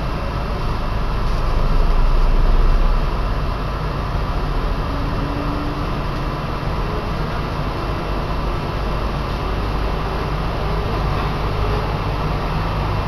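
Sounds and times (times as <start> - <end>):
train rumble from inside carriage: 0.0 - 13.0.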